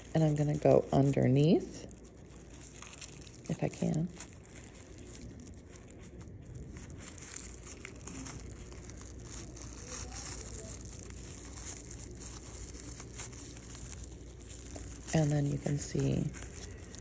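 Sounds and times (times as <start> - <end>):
plastic strips crinkling: 0.0 - 17.0.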